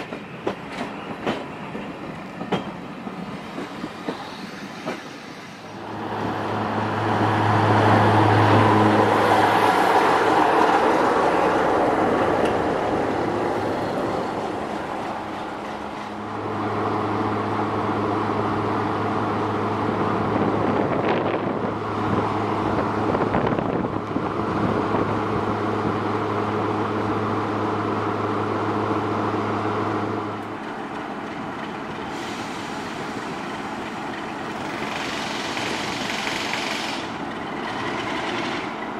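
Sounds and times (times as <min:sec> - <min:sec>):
diesel locomotive engine humming: 0:00.0 - 0:38.9.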